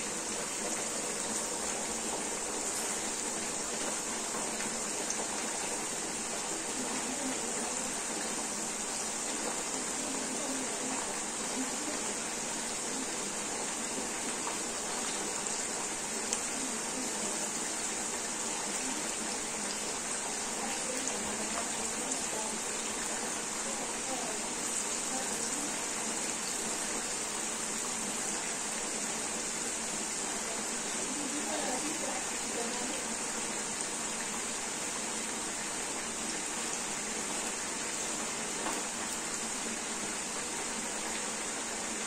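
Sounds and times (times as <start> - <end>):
water boiling in a pan: 0.0 - 42.0.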